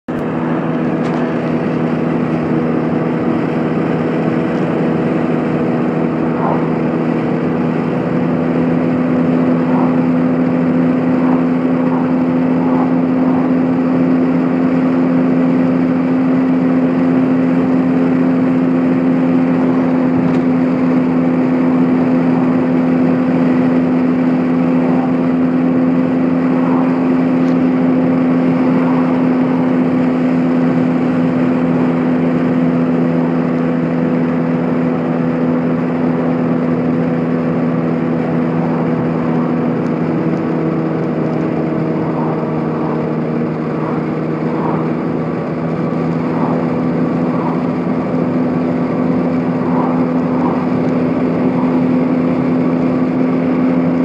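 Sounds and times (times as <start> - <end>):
car engine and tyres droning: 0.0 - 54.0.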